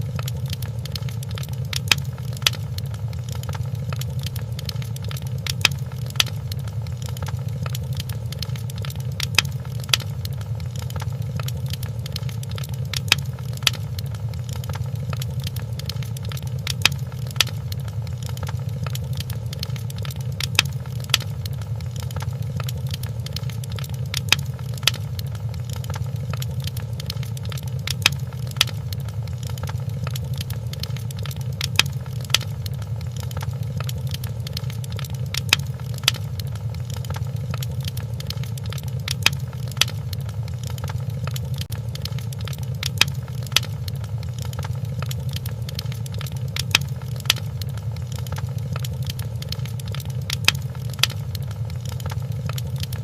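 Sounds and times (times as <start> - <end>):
sharp pops and snaps of fire: 0.0 - 53.0
wood fire crackling: 0.0 - 53.0.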